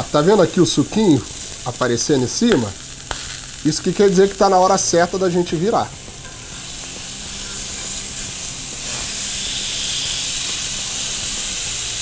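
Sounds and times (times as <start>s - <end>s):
steak sizzling on a griddle: 0.0s - 12.0s.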